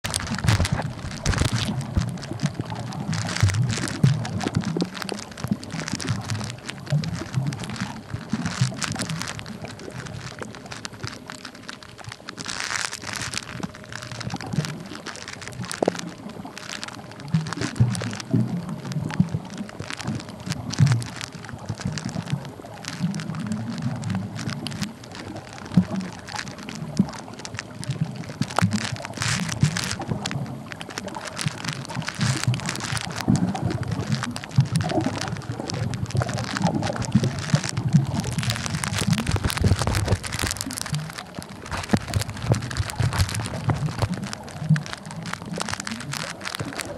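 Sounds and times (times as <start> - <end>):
low underwater rumbles: 0.0 - 46.9
underwater crackle of clicks: 0.0 - 46.9
water sloshing: 0.0 - 46.9.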